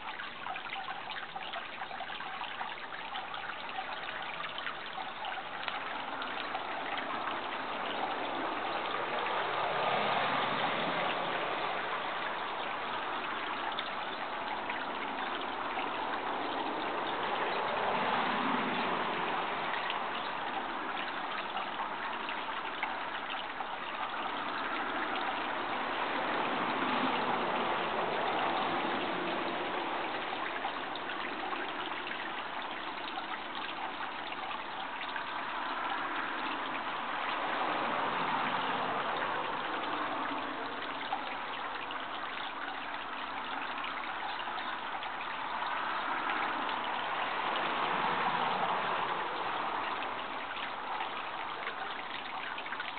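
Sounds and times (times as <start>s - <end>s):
running water babbling: 0.0s - 52.9s.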